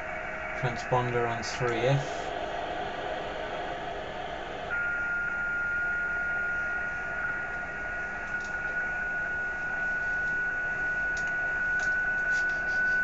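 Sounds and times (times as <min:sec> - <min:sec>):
steady single-pitch whistle: 0:00.0 - 0:13.0.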